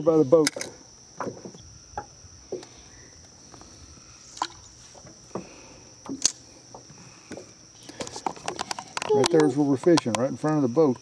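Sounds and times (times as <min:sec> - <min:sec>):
high-pitched insect buzz: 0:00.0 - 0:11.0.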